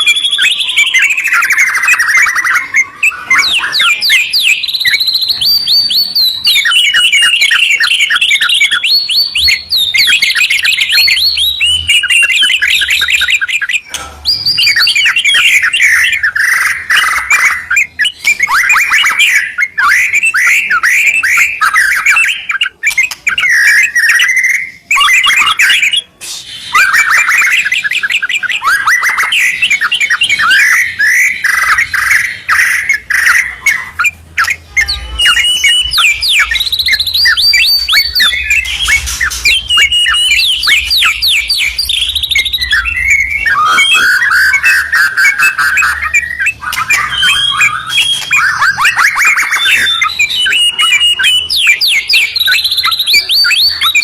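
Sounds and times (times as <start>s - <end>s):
birds singing whistled trills: 0.0s - 54.0s.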